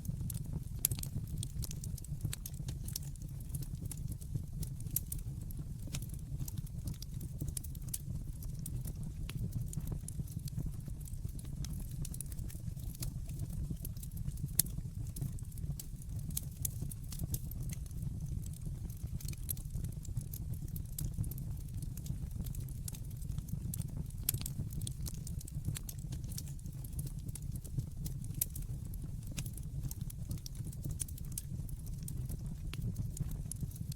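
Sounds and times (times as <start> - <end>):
logs crackling and popping: 0.0 - 33.9
wood fire rumbling: 0.0 - 33.9.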